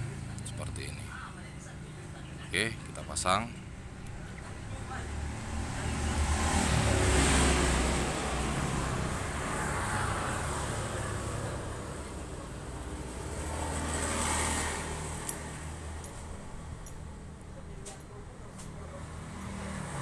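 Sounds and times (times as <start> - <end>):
low traffic rumble: 0.0 - 20.0
vehicles passing: 0.0 - 20.0.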